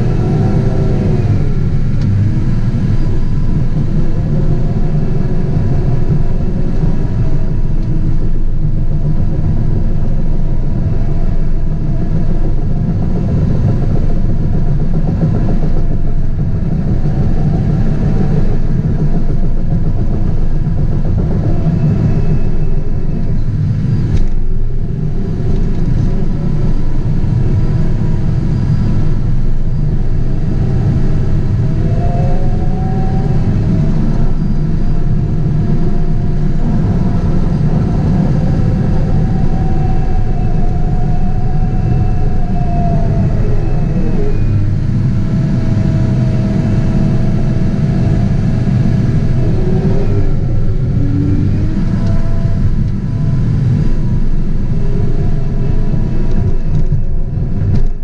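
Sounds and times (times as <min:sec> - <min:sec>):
diesel engine rumbling under load: 0:00.0 - 0:58.0
whine rising and falling: 0:00.0 - 0:58.0.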